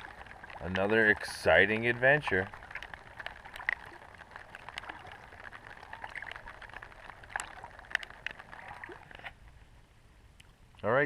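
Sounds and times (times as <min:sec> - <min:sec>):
small water drips: 0:00.0 - 0:09.7, 0:10.3 - 0:10.9
water lapping around a kayak: 0:00.0 - 0:09.8.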